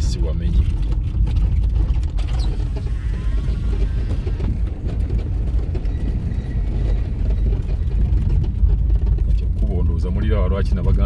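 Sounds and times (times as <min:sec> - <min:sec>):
vehicle rumble from on board: 0:00.0 - 0:11.0.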